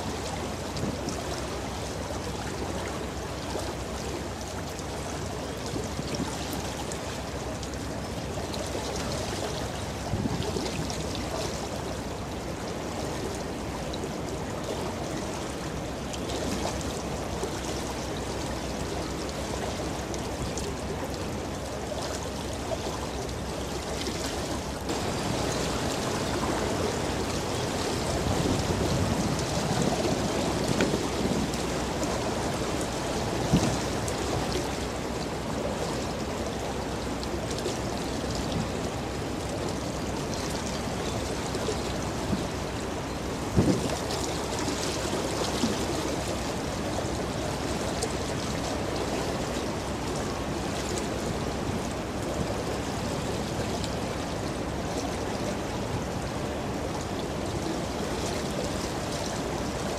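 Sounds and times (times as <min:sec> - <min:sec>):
bow wave water rushing and splashing: 0:00.0 - 0:59.9.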